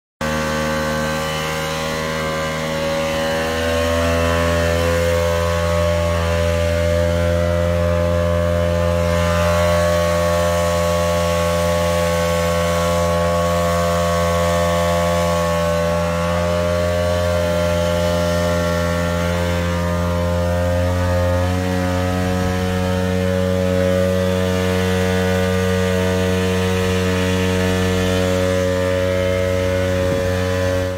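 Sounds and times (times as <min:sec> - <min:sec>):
fire pump engine running: 0:00.2 - 0:30.9.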